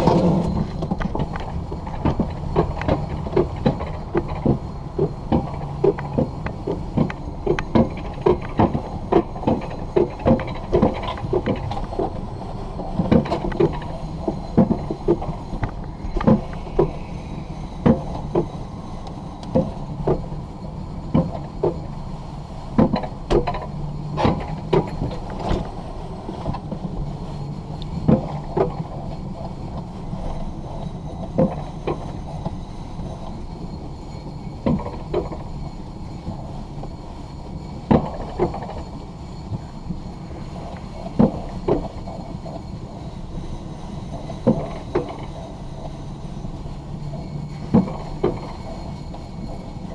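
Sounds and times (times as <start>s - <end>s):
sled clunking on track: 0.0s - 17.1s, 17.8s - 22.0s, 22.7s - 27.1s, 27.8s - 33.8s, 34.5s - 37.0s, 37.8s - 39.7s, 40.4s - 42.9s, 44.0s - 46.0s, 47.1s - 49.9s
coaster lift rumble and hum: 0.0s - 49.9s.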